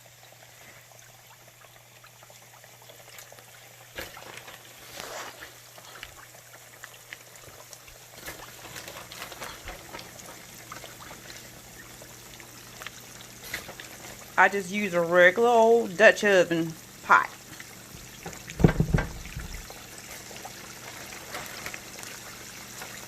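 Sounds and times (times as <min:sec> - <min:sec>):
chicken frying in oil: 0:00.0 - 0:23.0
oil popping and crackling: 0:00.3 - 0:23.0.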